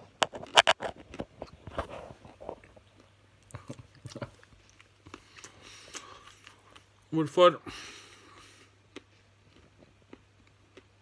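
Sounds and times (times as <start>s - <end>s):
person chewing chocolate: 0.1s - 7.1s, 7.9s - 11.0s.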